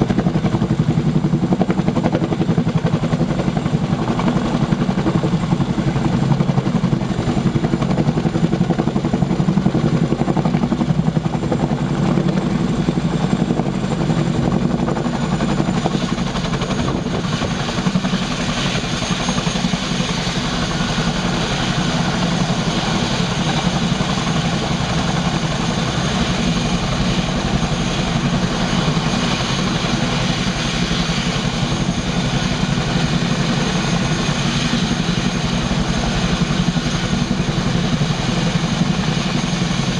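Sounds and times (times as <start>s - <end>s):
helicopter rotors chopping: 0.0s - 39.9s
turbine engine whine: 0.0s - 39.9s.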